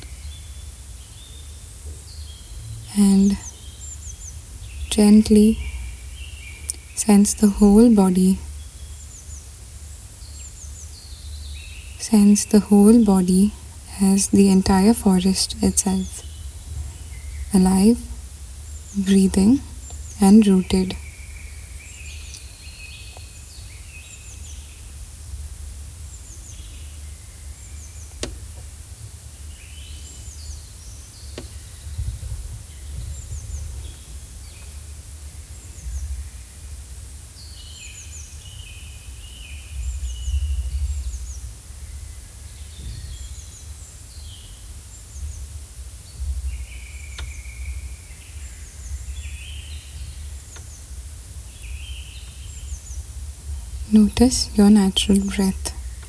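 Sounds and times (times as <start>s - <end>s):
songbirds singing and chirping: 0.0s - 25.0s, 26.0s - 36.6s, 37.2s - 56.0s.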